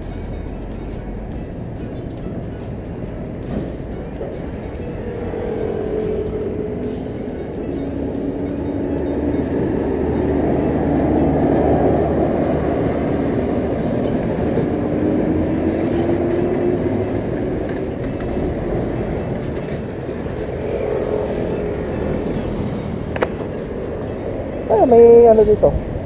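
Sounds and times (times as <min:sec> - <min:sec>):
road traffic rumble: 0:00.0 - 0:26.0
engine pitch rising: 0:04.4 - 0:25.8.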